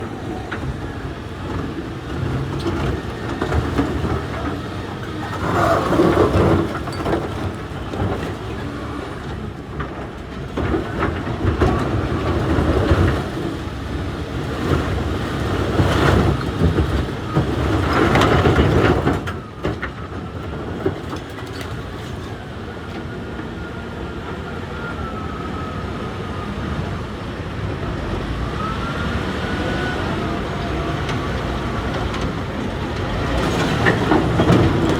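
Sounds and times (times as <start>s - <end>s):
heavy engine running: 0.0s - 34.9s
heavy machinery rumbling and grinding: 0.0s - 34.9s.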